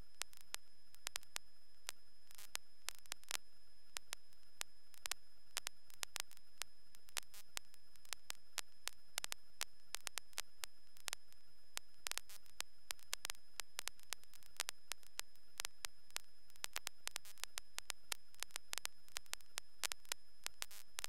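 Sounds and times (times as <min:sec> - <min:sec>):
radio hiss: 0:00.0 - 0:21.0
sharp static clicks: 0:00.0 - 0:21.0.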